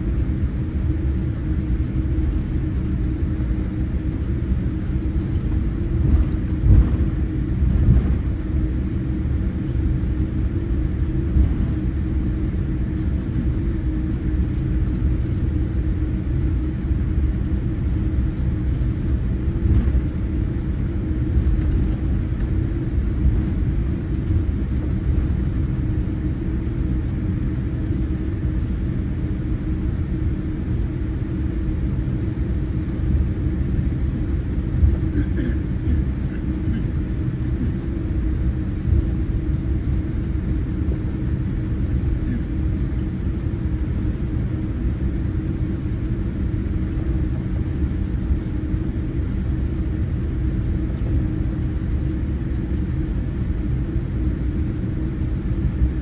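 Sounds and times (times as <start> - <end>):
airliner low rumble: 0.0 - 56.0.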